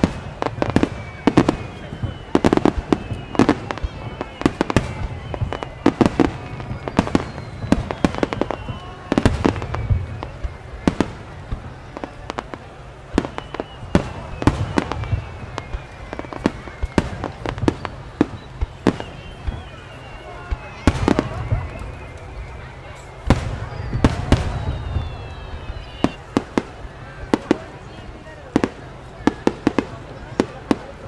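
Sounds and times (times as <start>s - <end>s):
fireworks bangs: 0.0s - 31.0s
fireworks whistles: 0.0s - 31.0s.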